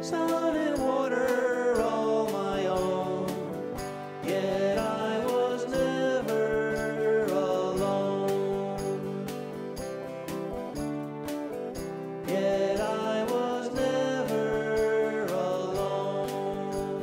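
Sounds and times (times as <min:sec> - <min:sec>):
electric guitar folk song: 0:00.0 - 0:17.0.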